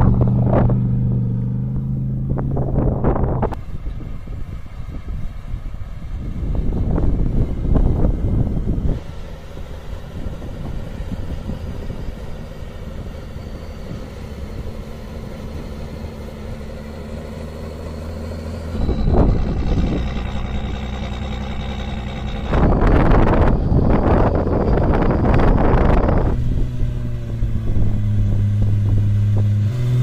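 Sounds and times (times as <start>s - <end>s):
vehicle engine running at low revs: 0.0s - 30.0s.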